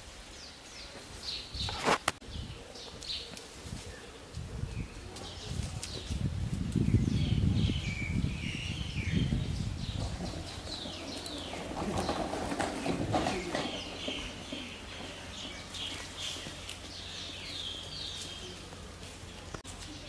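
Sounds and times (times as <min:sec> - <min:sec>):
rustle: 0:00.0 - 0:20.0
small birds chirping: 0:00.3 - 0:20.0.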